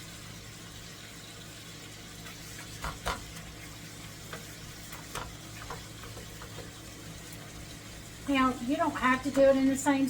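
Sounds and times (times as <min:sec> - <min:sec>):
meat and cabbage sizzling: 0:00.0 - 0:10.0.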